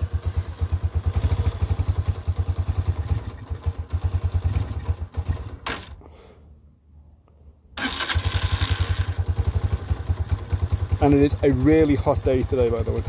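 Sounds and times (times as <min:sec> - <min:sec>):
motorcycle engine idling: 0:00.0 - 0:05.7, 0:07.8 - 0:13.0.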